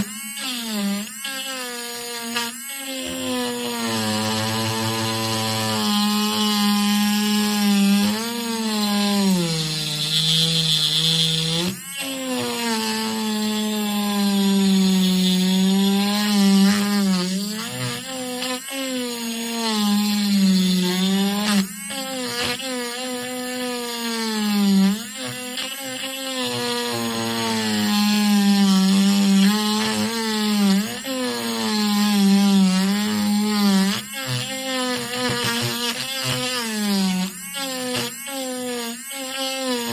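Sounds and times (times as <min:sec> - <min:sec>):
electric grinder whining: 0:00.0 - 0:39.9.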